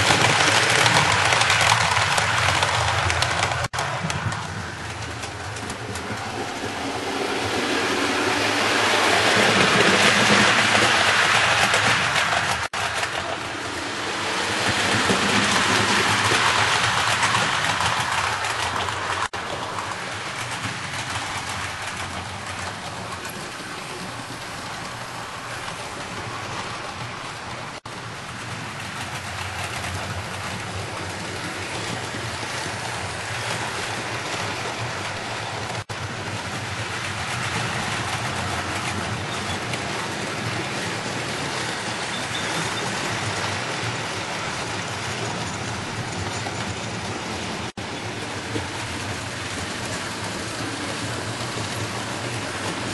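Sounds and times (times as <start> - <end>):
model train wheels and motors: 0.0 - 52.9.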